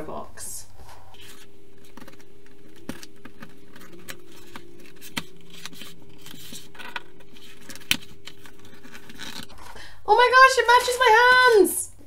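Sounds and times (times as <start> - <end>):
scraping and rustling of card: 0.7 - 11.7.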